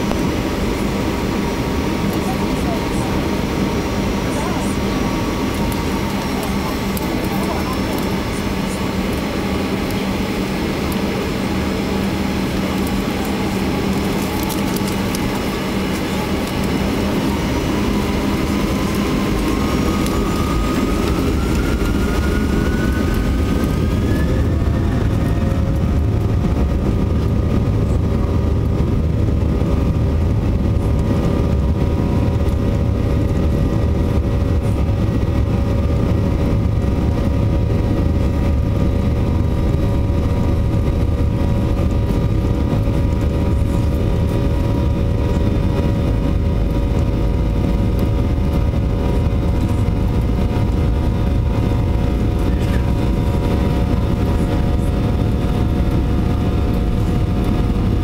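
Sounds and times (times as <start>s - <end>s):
deep jet rumble: 0.0s - 58.0s
jet engine whine rising: 0.0s - 58.0s.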